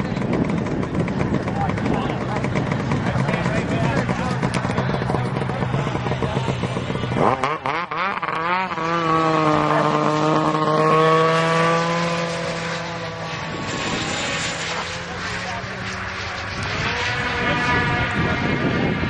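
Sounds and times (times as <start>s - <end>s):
snowmobile engines revving: 0.0s - 19.0s.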